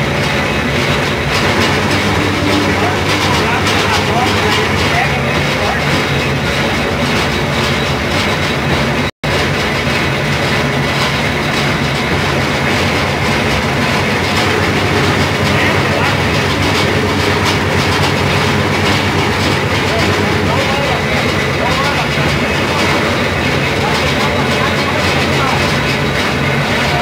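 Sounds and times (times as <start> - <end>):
rattling clatter of crusher: 0.0 - 27.0
motor hum: 1.3 - 8.0, 11.2 - 27.0.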